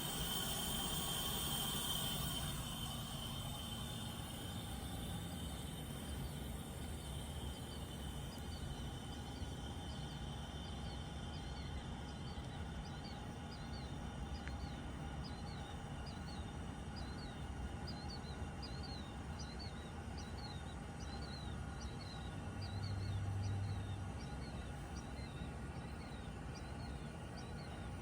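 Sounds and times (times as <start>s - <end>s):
small bird chirping: 0.0s - 28.0s
steady low hum: 0.0s - 28.0s.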